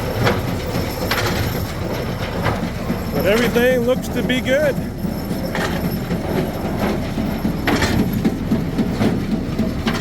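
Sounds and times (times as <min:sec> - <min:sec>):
baler chains and plunger clanking: 0:00.0 - 0:10.0
tractor engine rumble: 0:00.0 - 0:10.0.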